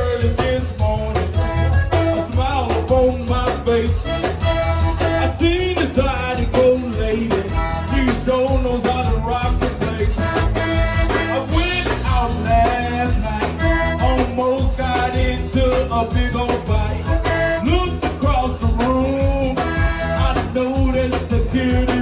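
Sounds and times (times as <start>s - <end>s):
accordion: 0.0s - 22.0s
drum kit beat: 0.0s - 22.0s
electric bass guitar: 0.0s - 22.0s.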